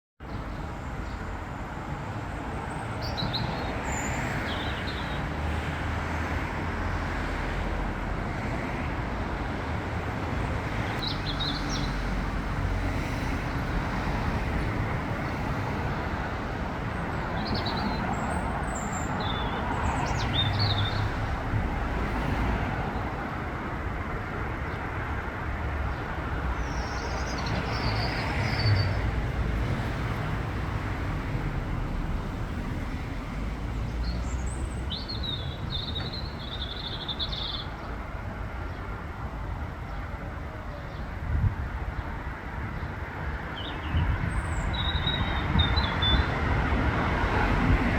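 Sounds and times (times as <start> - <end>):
road traffic rumble: 0.2 - 47.9.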